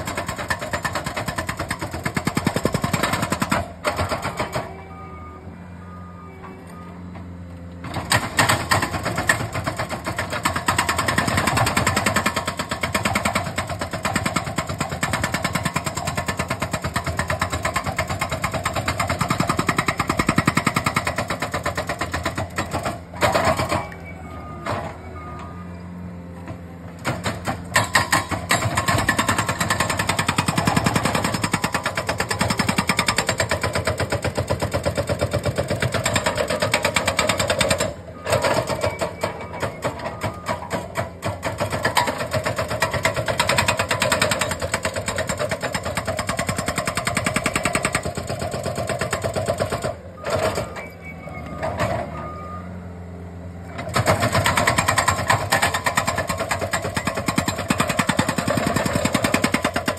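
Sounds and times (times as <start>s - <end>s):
hydraulic breaker hammering rock: 0.0s - 4.8s, 7.8s - 25.0s, 26.5s - 50.9s, 53.7s - 59.9s.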